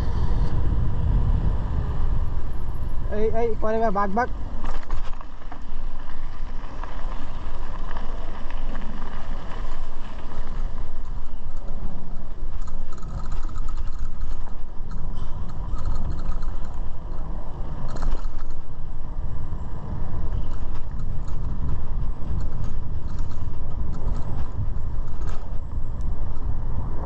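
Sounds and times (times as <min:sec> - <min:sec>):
tyres on gravel trail: 0:00.0 - 0:27.0
wind rumbling on microphone: 0:00.0 - 0:27.0.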